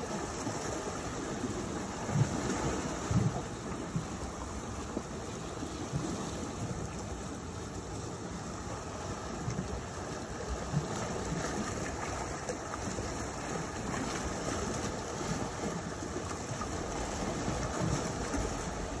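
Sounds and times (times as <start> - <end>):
sea water washing against rocks: 0.0 - 19.0.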